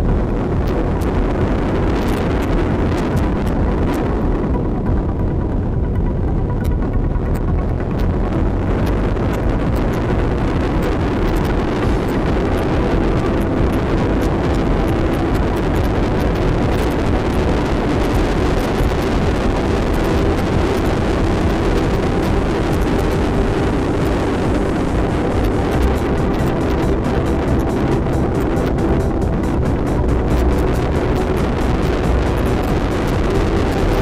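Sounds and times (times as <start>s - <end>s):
motorcycle engine running: 0.0s - 34.0s
wind rush on microphone: 0.0s - 34.0s.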